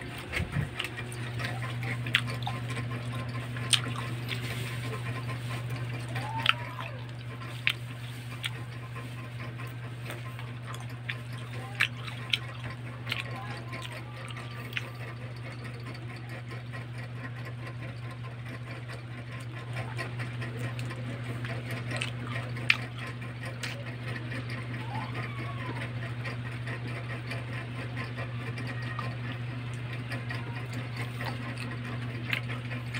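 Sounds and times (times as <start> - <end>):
mouth eating grapes: 0.0 - 16.8, 17.7 - 32.9.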